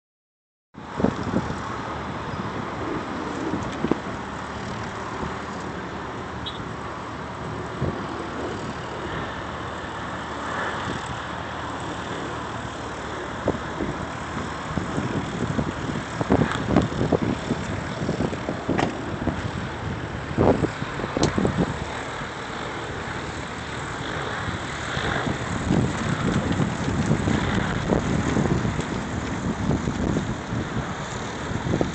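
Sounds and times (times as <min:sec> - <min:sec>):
wind gusts on microphone: 0:00.8 - 0:31.9.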